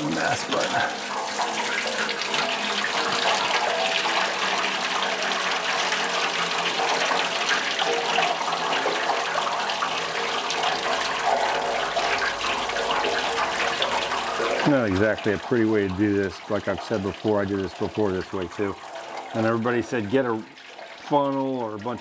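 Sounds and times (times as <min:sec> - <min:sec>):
coolant draining in a stream: 0:00.0 - 0:22.0.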